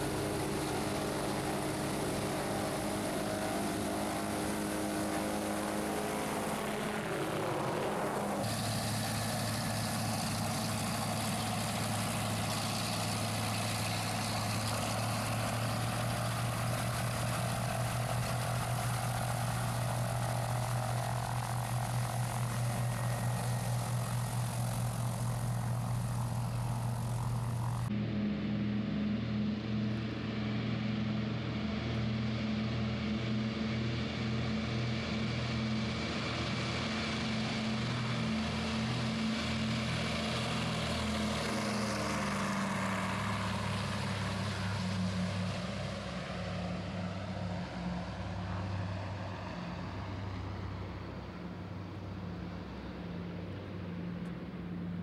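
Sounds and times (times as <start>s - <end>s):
helicopter flying: 0.0s - 55.0s
propeller plane engines running: 0.0s - 55.0s.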